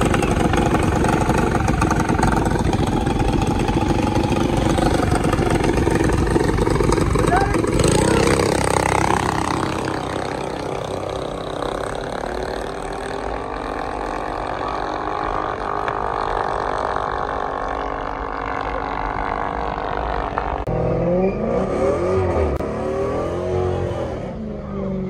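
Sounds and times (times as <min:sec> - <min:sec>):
vehicle engine revving: 0:00.0 - 0:25.0.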